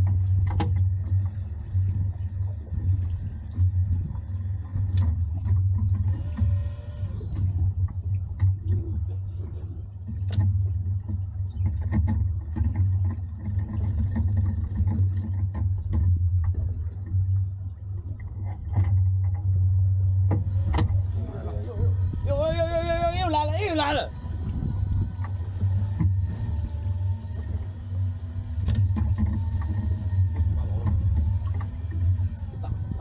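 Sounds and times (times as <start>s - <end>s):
boat engine drone: 0.0s - 33.0s.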